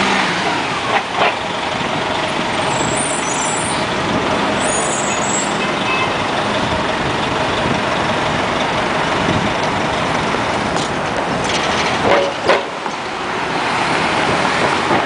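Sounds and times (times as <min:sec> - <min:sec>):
diesel bus pulling away: 0:00.0 - 0:15.0
street traffic: 0:00.0 - 0:15.0.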